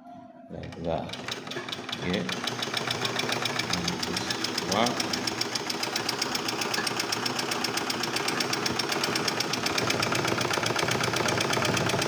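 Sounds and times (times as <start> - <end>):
treadle sewing machine clattering: 0.6 - 12.0.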